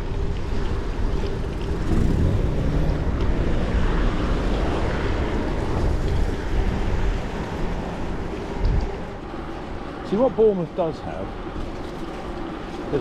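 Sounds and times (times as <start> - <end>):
wind rushing over microphone: 0.0 - 10.5
low road noise rumble: 0.0 - 13.0.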